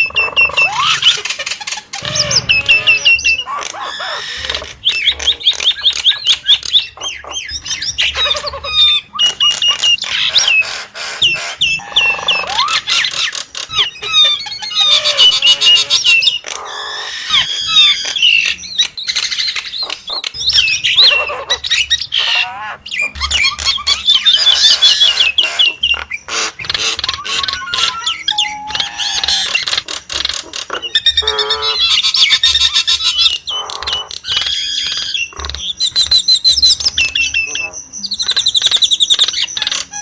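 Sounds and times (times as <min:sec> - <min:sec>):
myna calling: 0:00.0 - 0:40.0.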